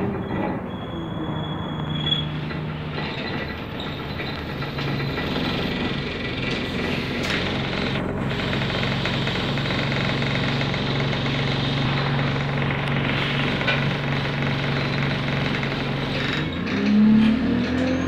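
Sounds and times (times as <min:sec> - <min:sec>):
bus engine idling: 0:00.0 - 0:16.8.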